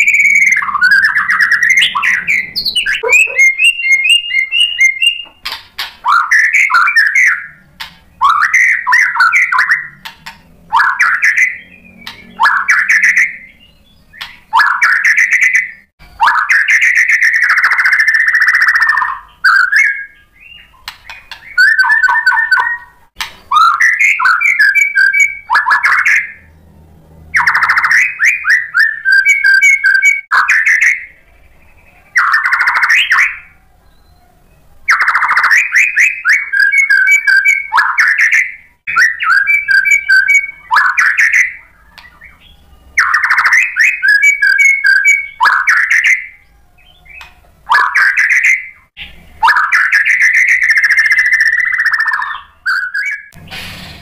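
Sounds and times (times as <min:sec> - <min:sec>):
bird singing whistled phrases: 0:00.0 - 0:10.0, 0:10.7 - 0:26.5, 0:27.4 - 0:53.4.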